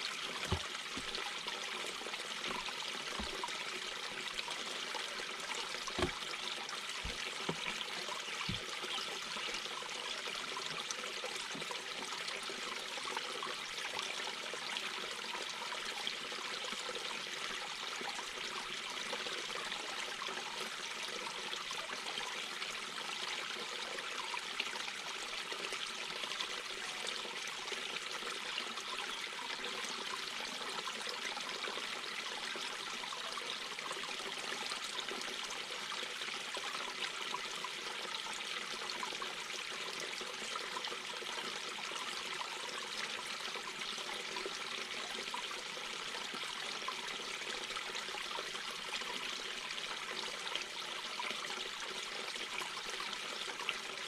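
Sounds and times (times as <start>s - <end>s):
brook babbling over stones: 0.0s - 54.0s.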